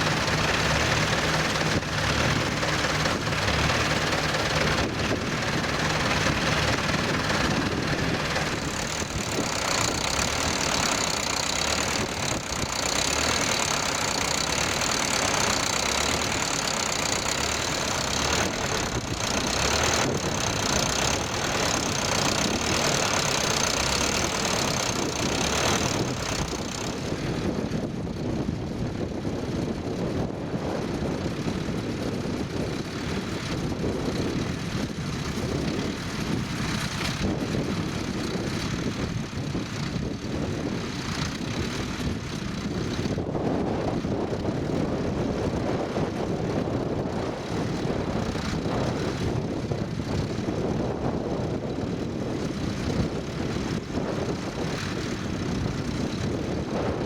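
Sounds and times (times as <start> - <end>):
tractor engine running: 0.0 - 57.0
wind buffeting microphone: 0.0 - 57.0.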